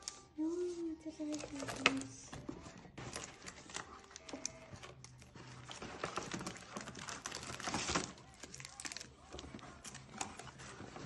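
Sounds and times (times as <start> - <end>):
paper and wrappers crinkling: 0.0 - 11.0.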